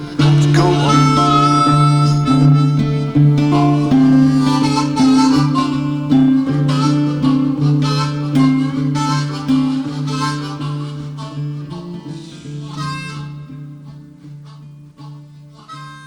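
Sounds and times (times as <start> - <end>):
strummed acoustic guitar: 0.0 - 15.9
harmonica solo: 0.0 - 16.0.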